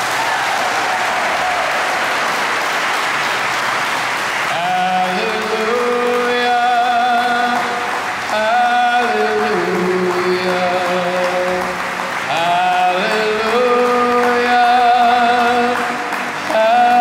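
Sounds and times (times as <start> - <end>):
congregation applauding: 0.0 - 17.0.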